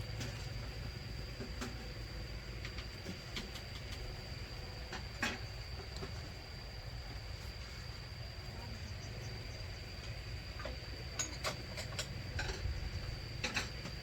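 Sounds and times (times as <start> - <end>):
faint high-pitched whine: 0.0 - 14.0
steady low hum: 0.0 - 14.0.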